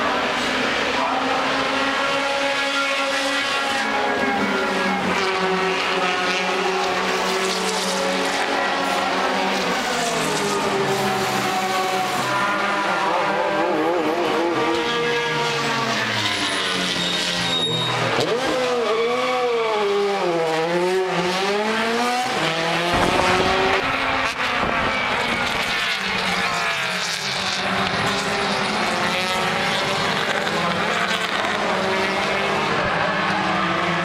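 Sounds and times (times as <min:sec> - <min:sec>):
racing car engines revving: 0:00.0 - 0:34.0.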